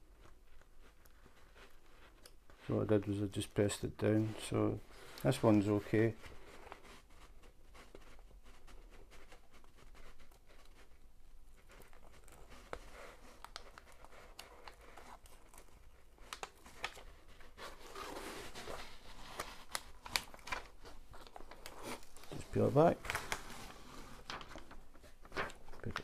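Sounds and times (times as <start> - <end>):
paper rustling and crackling: 4.4 - 26.0.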